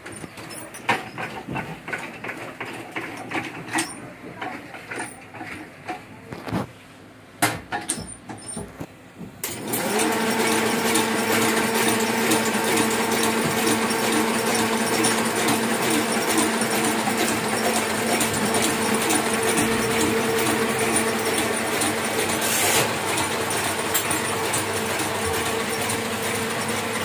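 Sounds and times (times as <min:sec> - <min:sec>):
printing press clattering: 0:00.0 - 0:06.1, 0:07.4 - 0:27.0.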